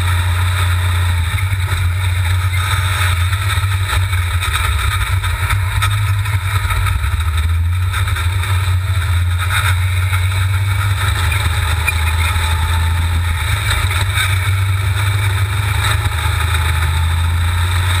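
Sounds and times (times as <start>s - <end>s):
engine droning under steady throttle: 0.0s - 18.0s.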